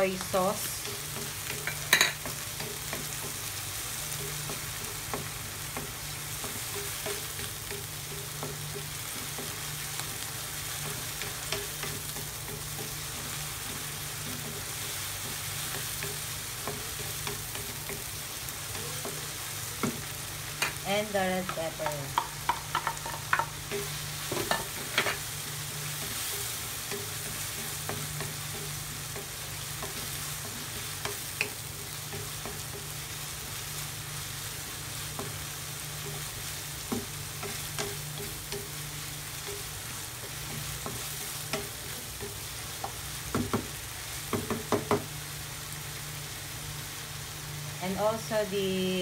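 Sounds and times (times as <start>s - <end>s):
beef sizzling in a frying pan: 0.0s - 49.0s
wooden spatula clacking and scraping: 0.2s - 33.3s, 34.6s - 45.1s.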